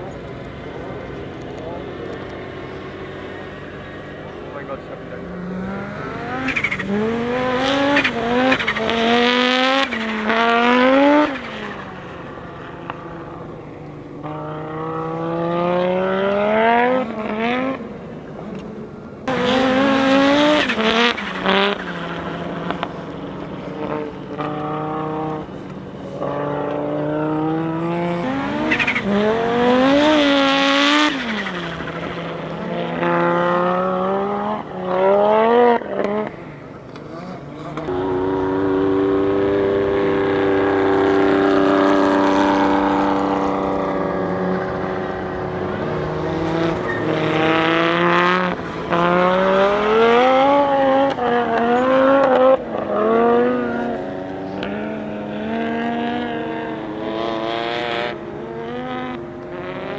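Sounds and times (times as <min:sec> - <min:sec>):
car engine revving hard: 0:01.0 - 0:18.0, 0:19.3 - 0:59.9.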